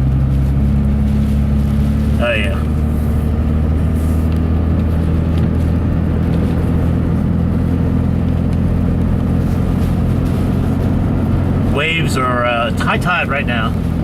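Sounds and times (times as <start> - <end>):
road and wind noise: 0.0 - 14.0
truck engine droning: 0.0 - 14.0.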